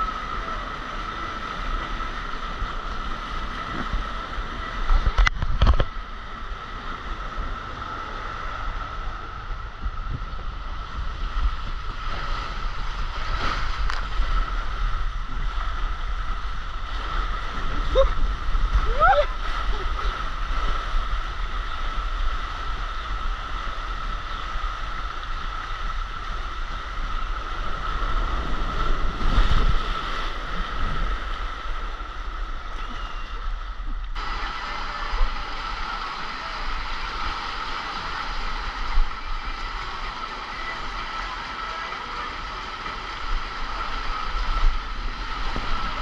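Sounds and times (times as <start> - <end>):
low rumble on microphone: 0.0 - 46.0
water rushing along a slide: 0.0 - 46.0.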